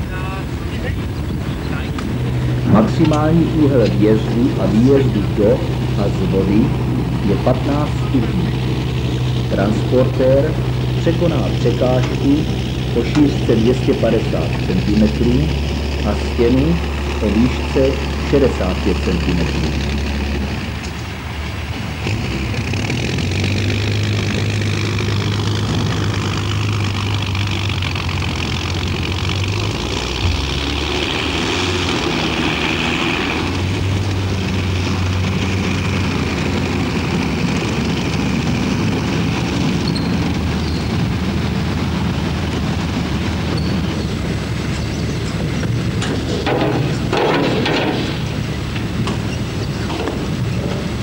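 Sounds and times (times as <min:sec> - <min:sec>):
tracked vehicle engine droning: 0:00.0 - 0:51.0.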